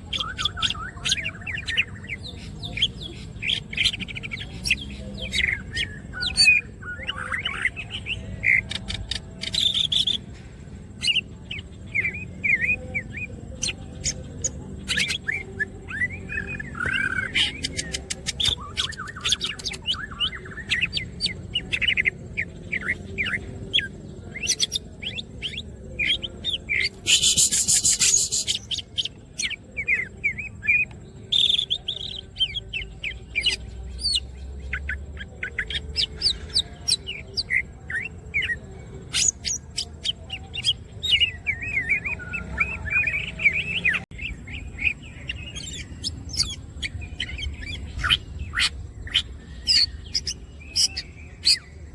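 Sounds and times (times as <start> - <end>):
bird singing chirps and whistles: 0.0 - 10.3, 11.0 - 51.9.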